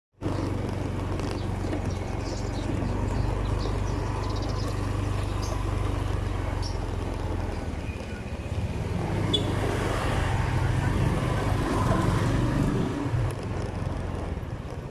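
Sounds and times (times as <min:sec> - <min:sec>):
road and wind noise: 0:00.1 - 0:14.9
motorbike engine running: 0:00.2 - 0:14.9.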